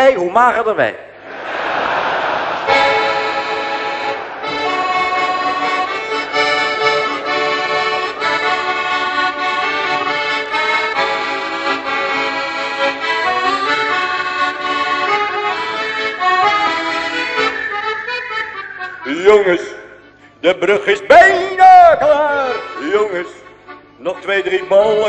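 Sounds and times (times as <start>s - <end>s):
accordion playing: 1.8s - 25.0s.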